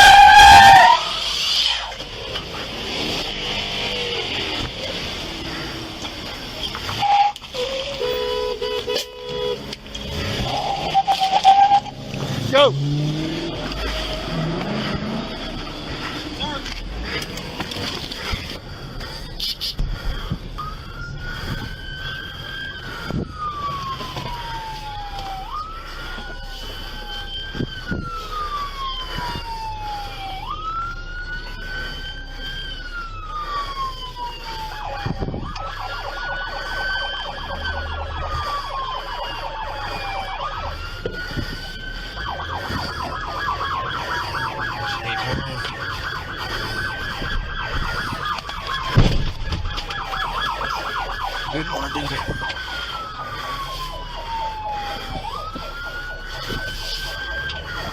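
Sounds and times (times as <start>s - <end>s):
police siren wailing: 0.0s - 57.9s
siren yelping: 0.0s - 57.9s.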